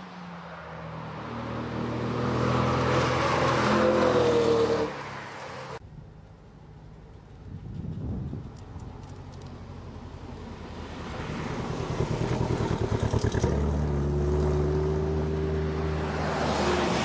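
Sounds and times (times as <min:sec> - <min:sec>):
sports car engine approaching: 0:00.1 - 0:17.0.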